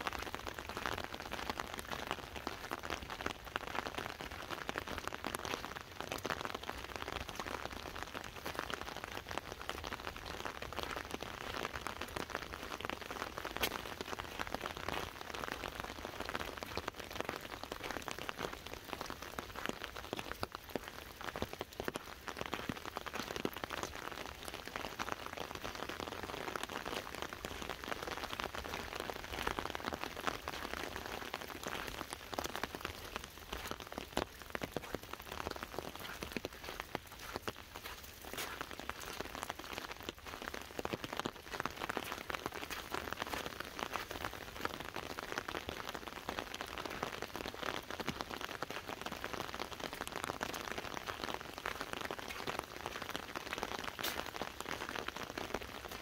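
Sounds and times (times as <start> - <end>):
rain drumming on an umbrella: 0.0 - 56.0.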